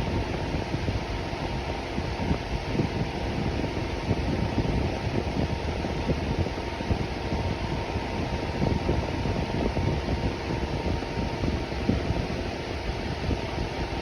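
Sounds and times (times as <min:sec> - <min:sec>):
electric fan running: 0:00.0 - 0:14.0.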